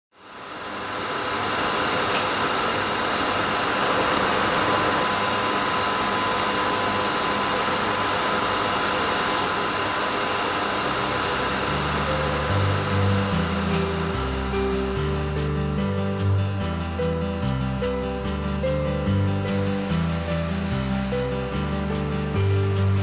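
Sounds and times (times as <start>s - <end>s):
textile mill machinery hiss and whine: 0.2s - 23.0s.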